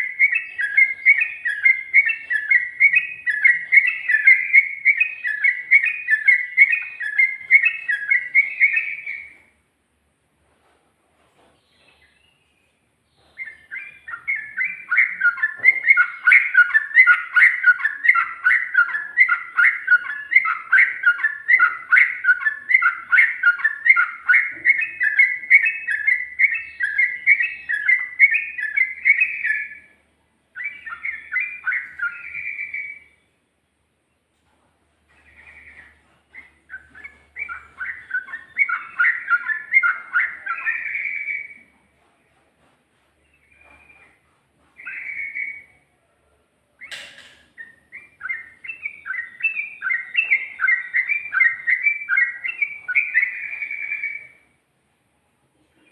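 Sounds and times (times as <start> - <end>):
bird singing chattering song: 0.0 - 9.6, 11.6 - 34.4, 35.0 - 42.1, 43.1 - 45.9, 46.7 - 54.6.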